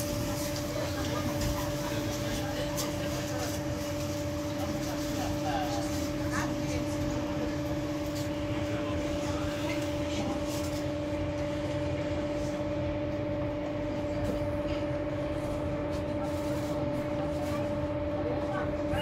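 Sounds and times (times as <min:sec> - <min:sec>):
low train rumble: 0:00.0 - 0:19.0
two-tone electrical hum: 0:00.0 - 0:19.0.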